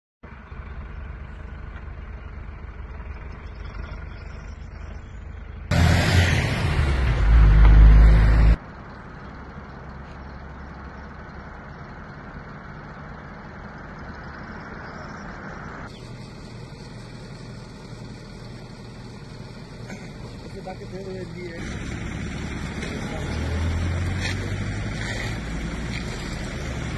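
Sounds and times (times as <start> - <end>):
road traffic going by: 0.2 - 26.9.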